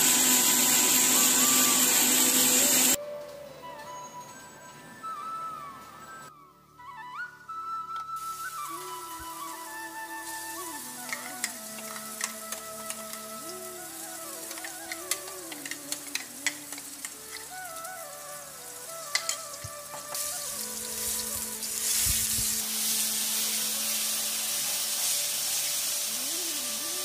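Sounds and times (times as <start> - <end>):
spice paste sizzling in oil: 0.0 - 3.0, 8.2 - 27.0.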